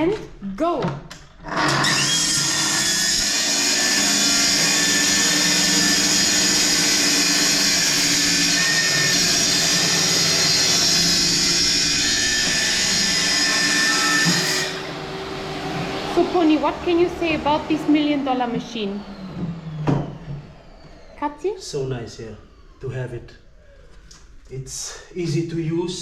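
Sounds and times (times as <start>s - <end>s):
electric saw running: 1.4s - 24.3s
vacuum dust extractor running: 1.4s - 26.0s.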